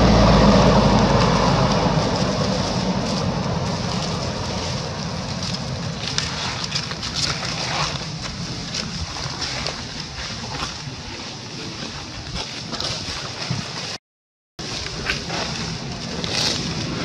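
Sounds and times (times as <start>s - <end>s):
low rumble: 0.0s - 13.2s, 14.6s - 17.0s
dry leaves crackling underfoot: 0.0s - 13.3s, 14.6s - 17.0s
steady outdoor hiss: 0.0s - 13.8s, 14.6s - 17.0s.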